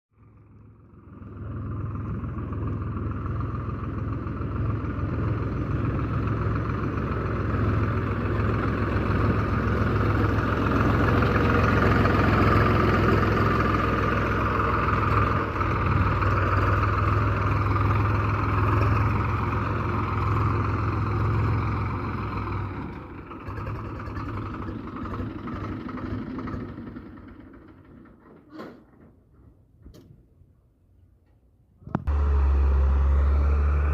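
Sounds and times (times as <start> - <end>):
diesel engine running: 0.2 - 28.2, 31.9 - 33.9.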